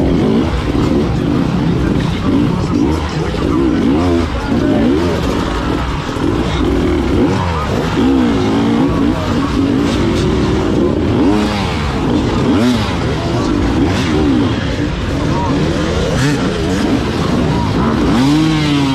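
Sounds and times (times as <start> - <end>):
motorcycle engines revving: 0.0 - 18.9.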